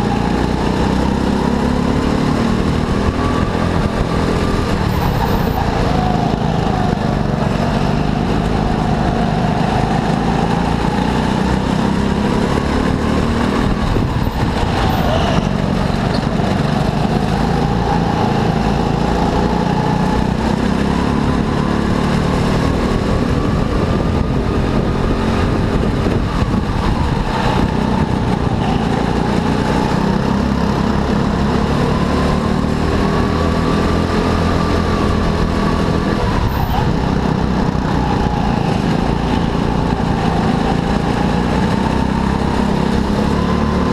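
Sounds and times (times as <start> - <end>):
go-kart engine revving: 0.0 - 43.9.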